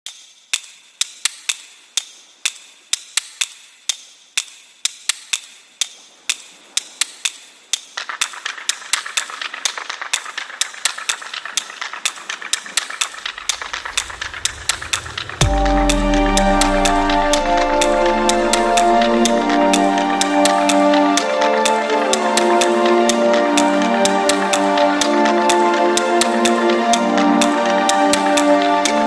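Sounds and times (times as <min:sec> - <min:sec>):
steady hiss: 0:00.4 - 0:29.0.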